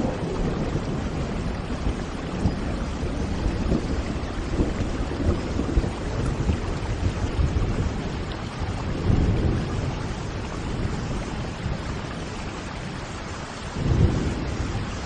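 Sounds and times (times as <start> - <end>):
rain rushing: 0.0 - 15.0.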